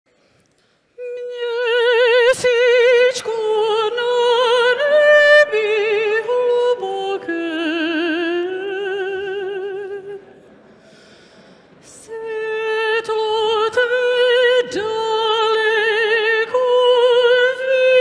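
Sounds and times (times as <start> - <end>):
woman singing operatic notes: 1.0 - 10.3, 11.9 - 18.0.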